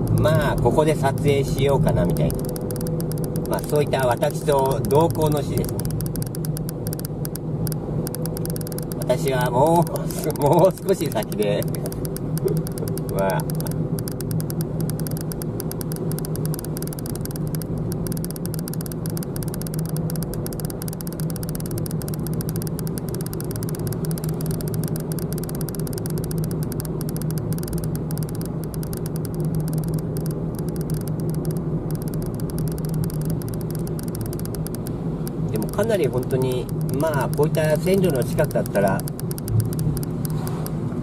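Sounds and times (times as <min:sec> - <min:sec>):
car engine drone: 0:00.0 - 0:41.0
tyre and road noise: 0:00.0 - 0:41.0.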